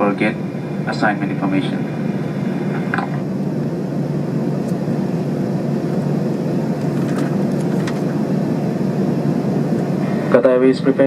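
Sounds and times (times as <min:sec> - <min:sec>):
aircraft cabin low rumble: 0:00.0 - 0:11.0.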